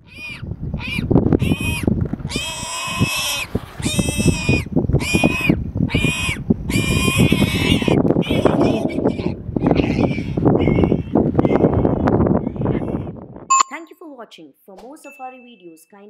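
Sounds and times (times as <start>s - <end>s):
baby warthog squealing: 0.0s - 13.1s.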